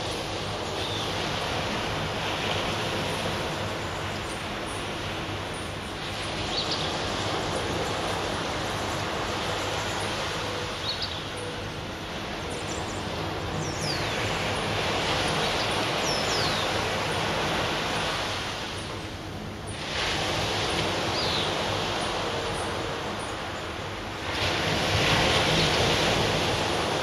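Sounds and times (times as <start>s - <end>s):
surf washing onto beach: 0.0s - 27.0s.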